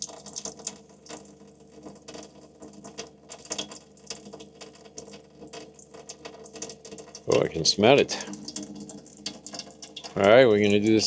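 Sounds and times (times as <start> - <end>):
faucet water running into sink: 0.0 - 11.0.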